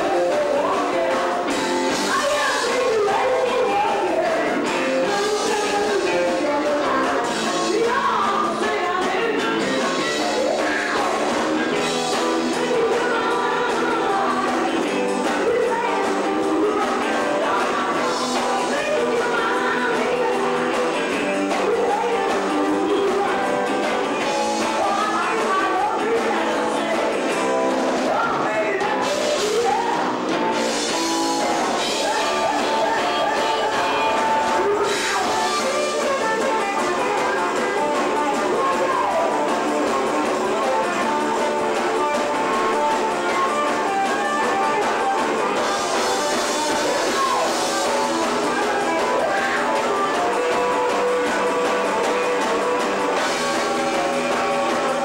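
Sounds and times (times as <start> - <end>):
live rock band playing: 0.0 - 55.0
person singing: 0.0 - 55.0.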